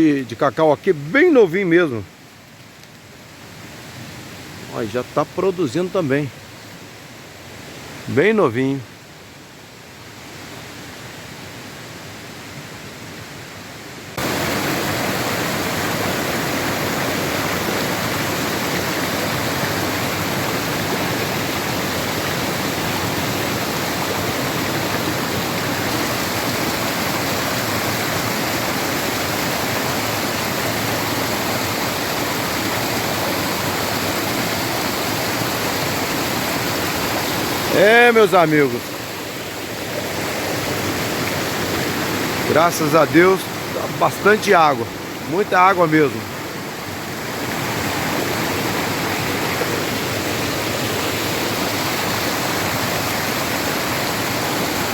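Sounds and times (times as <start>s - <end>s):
waterfall rushing: 0.0s - 2.4s, 3.4s - 8.9s, 13.5s - 54.9s.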